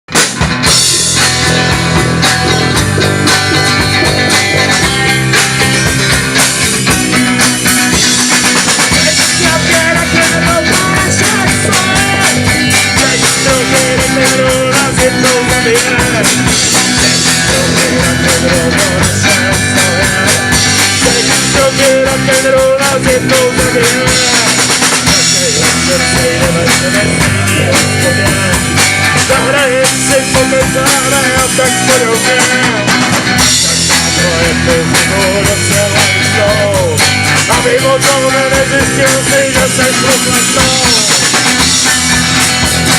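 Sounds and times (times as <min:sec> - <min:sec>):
drum kit beat: 0:00.1 - 0:42.9
guitars: 0:00.1 - 0:42.9
person singing: 0:01.1 - 0:42.9.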